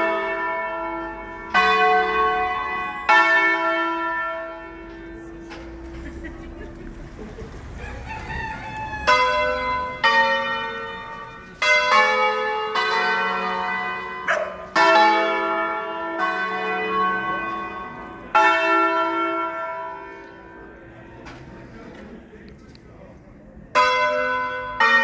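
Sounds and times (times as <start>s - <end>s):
church bells ringing: 0.0s - 21.3s, 23.7s - 25.0s.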